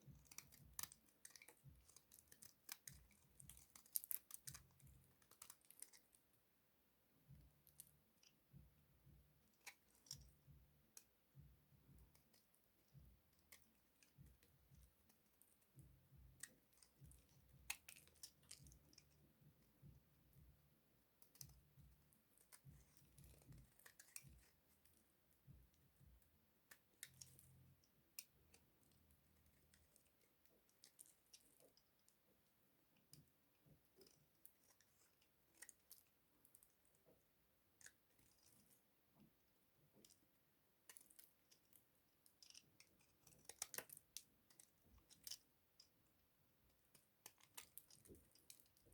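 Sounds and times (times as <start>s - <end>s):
hard soap crackling: 0.0s - 6.4s, 9.4s - 37.1s, 39.9s - 48.9s.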